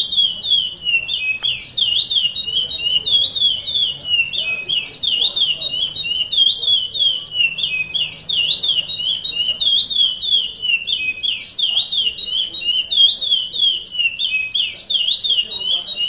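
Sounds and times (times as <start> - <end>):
finch singing whistled notes: 0.0 - 16.0.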